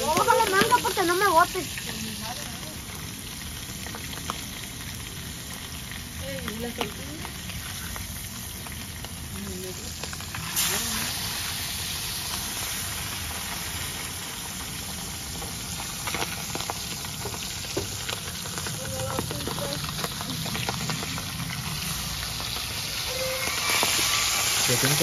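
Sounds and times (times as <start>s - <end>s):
fish deep-frying in hot oil: 0.0s - 25.0s.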